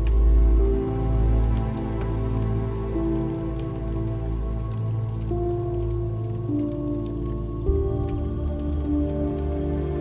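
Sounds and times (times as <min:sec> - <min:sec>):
rain pattering: 0:00.0 - 0:10.0
slow ambient music: 0:00.0 - 0:10.0.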